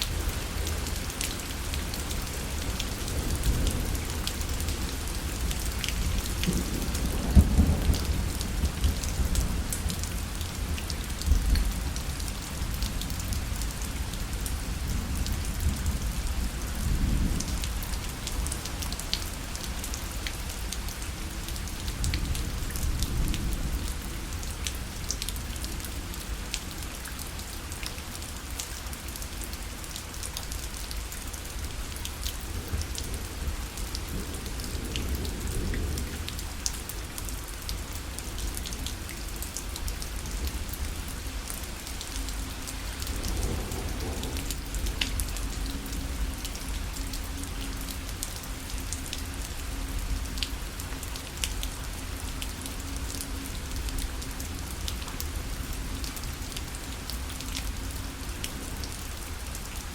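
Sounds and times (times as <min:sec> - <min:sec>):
rain ticking on a fabric parasol: 0:00.0 - 0:59.9.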